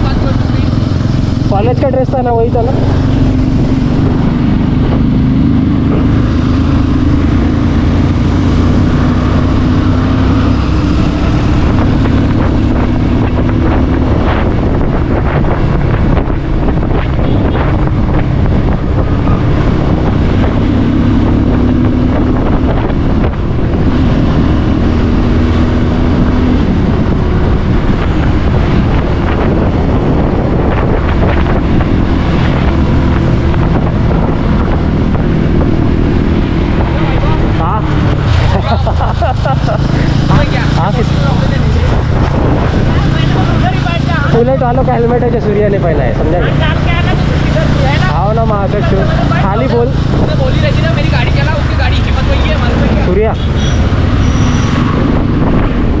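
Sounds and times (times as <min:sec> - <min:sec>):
motorcycle engine accelerating: 0:00.0 - 0:56.0
wind buffeting microphone: 0:00.0 - 0:56.0.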